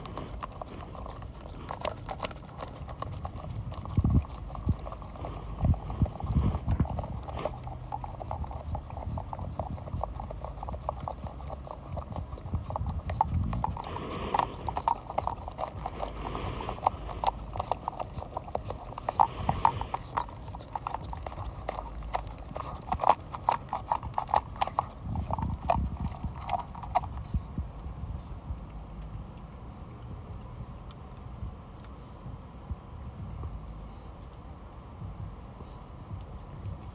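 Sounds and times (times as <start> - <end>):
puppy lapping and licking: 0.0 - 32.2.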